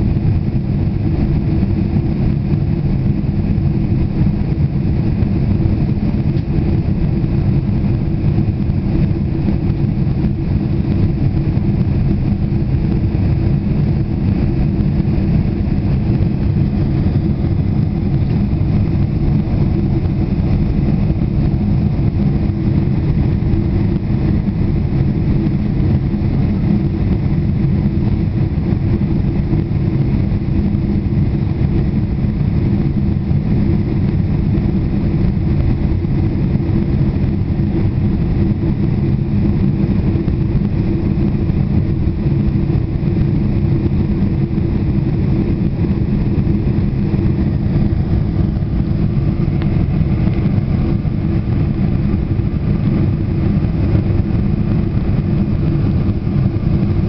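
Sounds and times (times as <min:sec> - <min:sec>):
jet engine and airflow rumble: 0:00.0 - 0:57.0.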